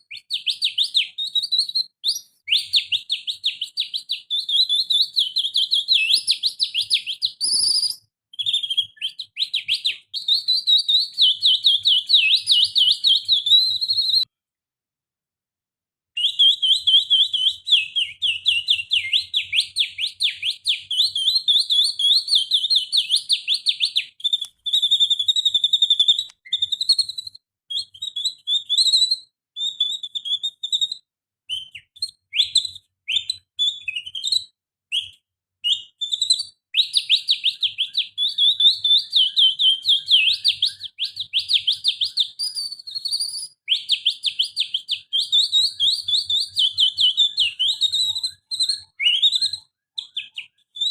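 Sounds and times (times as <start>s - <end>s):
person whistling bird trills: 0.0s - 14.3s, 16.2s - 50.9s.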